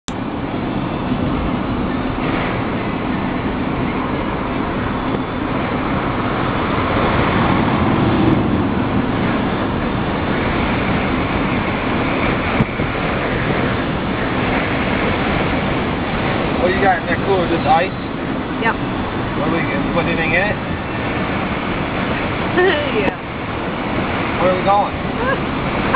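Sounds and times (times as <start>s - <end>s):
road noise: 0.1s - 25.9s
wind rush in moving car: 0.1s - 25.9s.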